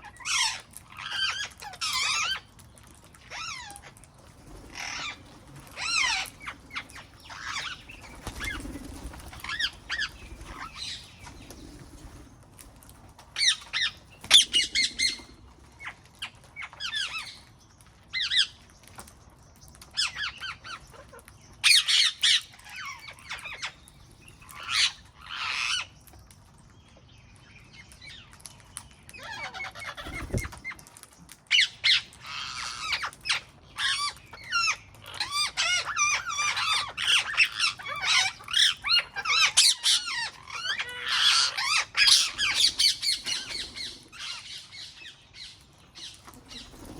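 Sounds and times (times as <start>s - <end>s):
parrots squawking and screeching: 0.0s - 12.2s, 13.4s - 17.5s, 19.9s - 25.9s, 29.1s - 30.8s, 31.5s - 46.9s.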